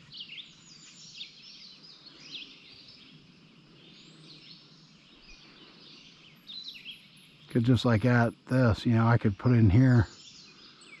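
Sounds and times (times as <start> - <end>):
faint outdoor background noise: 0.0 - 11.0
small birds chirping and singing: 0.0 - 11.0.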